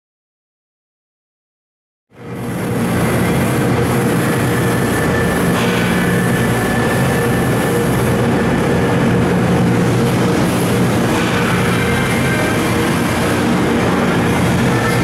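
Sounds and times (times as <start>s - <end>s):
machine mechanical hum: 2.1s - 15.0s.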